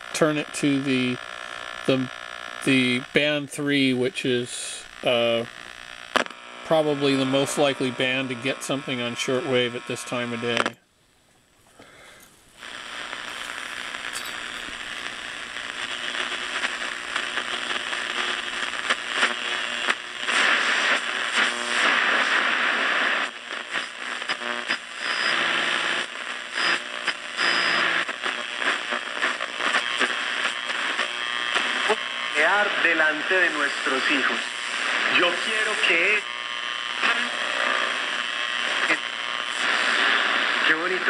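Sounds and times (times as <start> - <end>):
radio static hiss and crackle: 0.0 - 41.0.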